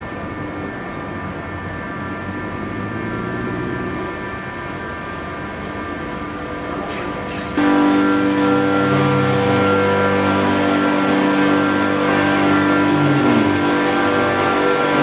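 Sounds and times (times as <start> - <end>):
train mechanical hum: 0.0 - 15.0.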